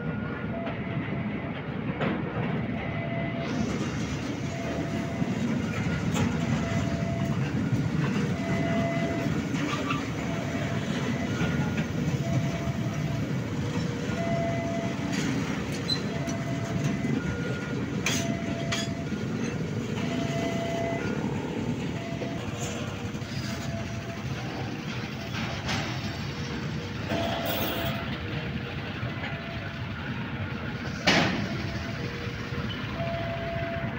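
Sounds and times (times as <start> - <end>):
level crossing warning tone: 0.0 - 1.7, 2.4 - 33.9
train wheels rumbling on rails: 0.0 - 33.9
wheels clacking on rail joints: 0.5 - 33.9.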